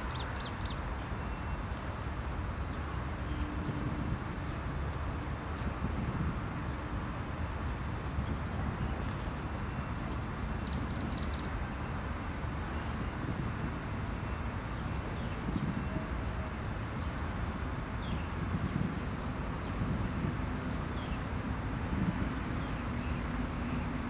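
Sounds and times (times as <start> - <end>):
low background rumble and hiss: 0.0 - 24.0.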